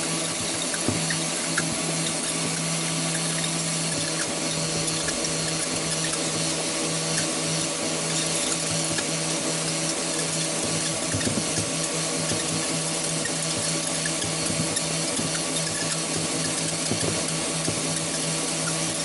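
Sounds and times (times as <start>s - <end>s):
shredder motor humming: 0.0s - 19.0s.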